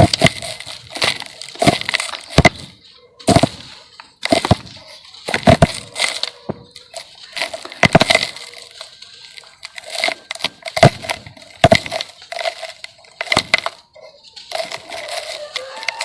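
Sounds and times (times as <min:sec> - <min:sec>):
dry lumps crunching: 0:00.0 - 0:16.0.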